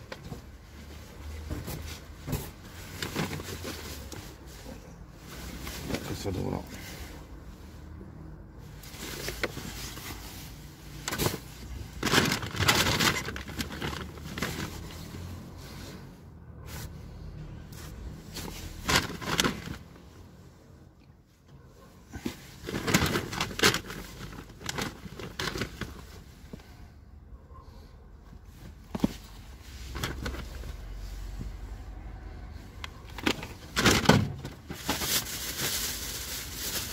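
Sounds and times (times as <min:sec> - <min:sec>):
plastic bags and clothing rustling: 0:00.0 - 0:16.1, 0:17.7 - 0:20.0, 0:21.6 - 0:26.8, 0:28.4 - 0:36.9.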